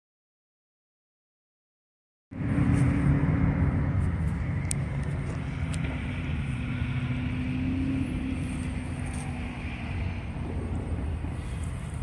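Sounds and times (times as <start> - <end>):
engine rumble: 2.3 - 12.0.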